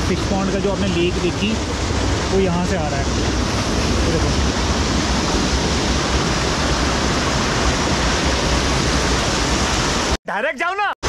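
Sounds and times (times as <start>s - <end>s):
stream water rushing: 0.0s - 10.2s.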